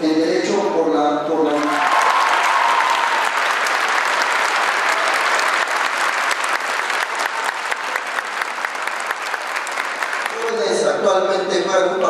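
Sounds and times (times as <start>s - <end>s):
audience applauding: 1.4s - 11.1s.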